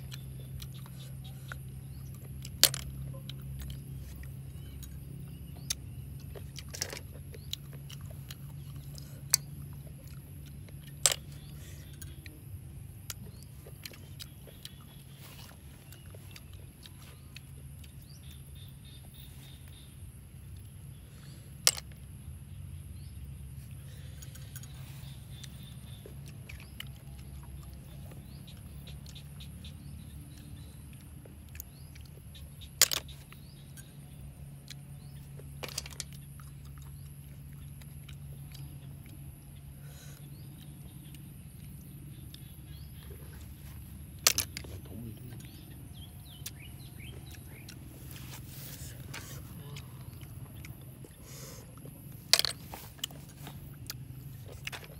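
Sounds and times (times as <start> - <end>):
person picking and chewing: 0.0 - 54.9
steady low hum: 0.0 - 54.9.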